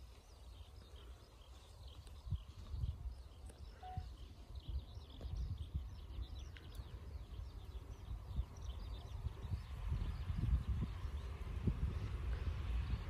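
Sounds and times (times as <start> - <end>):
small birds chirping: 0.0 - 13.0
wind buffeting microphone: 0.0 - 13.0.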